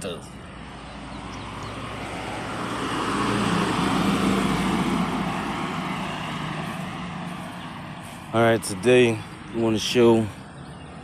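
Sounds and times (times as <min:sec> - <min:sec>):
vehicle passing by: 0:00.2 - 0:11.0.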